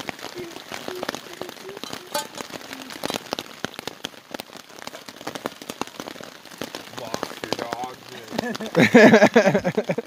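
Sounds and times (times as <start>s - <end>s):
large raindrops tapping: 0.0s - 10.0s
steady rain falling: 0.0s - 10.0s.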